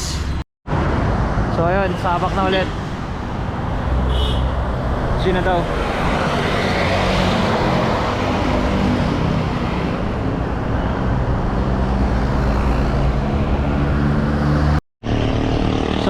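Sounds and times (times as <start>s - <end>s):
road noise rushing: 0.0s - 16.0s
vehicle engines humming: 0.0s - 16.0s.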